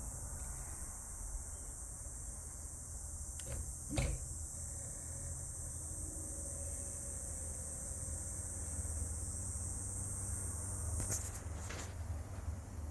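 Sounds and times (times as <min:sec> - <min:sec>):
fan humming and hissing: 0:00.0 - 0:12.9.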